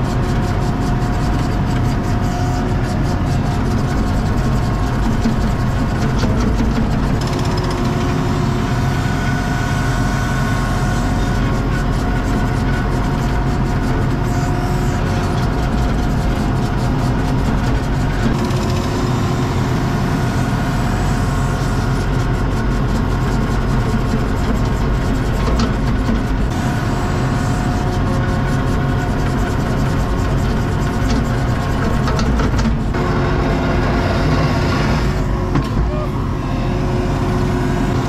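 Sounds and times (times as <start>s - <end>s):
skid steer engine running: 0.0s - 38.0s
steady mechanical whine: 0.0s - 38.0s.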